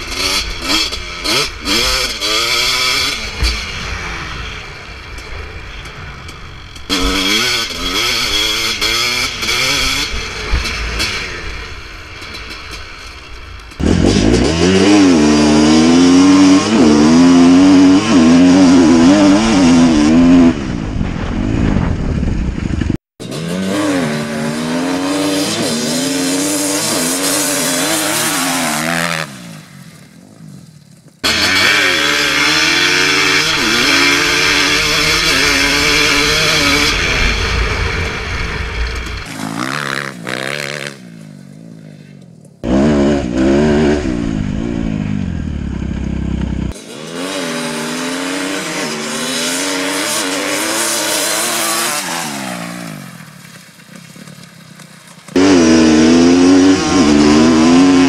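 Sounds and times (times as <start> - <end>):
dirt bike engines revving: 0.0 - 30.4, 31.0 - 58.0.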